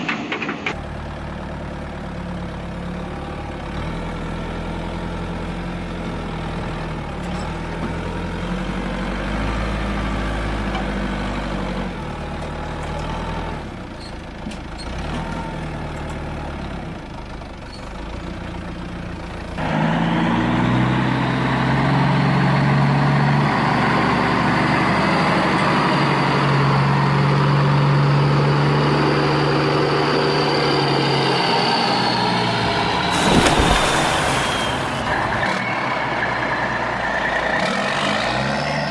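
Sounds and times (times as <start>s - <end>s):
truck engine revving: 0.7s - 13.8s, 18.0s - 38.9s.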